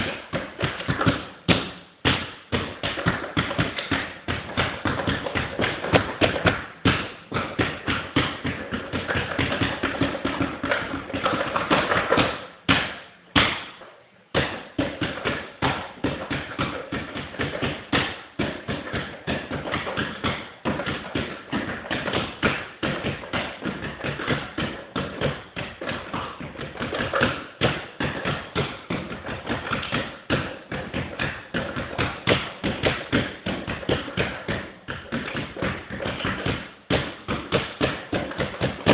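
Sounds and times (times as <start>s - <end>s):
basketball bouncing on hardwood: 0.0s - 38.9s.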